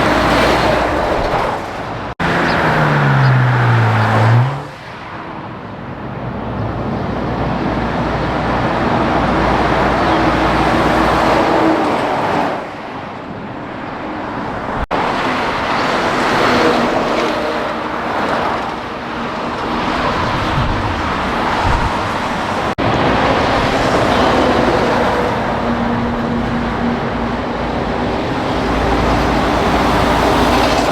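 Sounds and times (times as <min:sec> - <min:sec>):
heavy highway traffic: 0:00.0 - 0:30.9.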